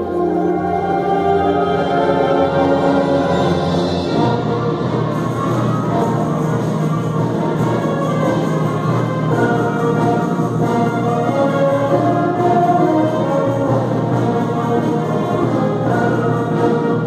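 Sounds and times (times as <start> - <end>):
wind band playing sustained chords: 0.0 - 17.0.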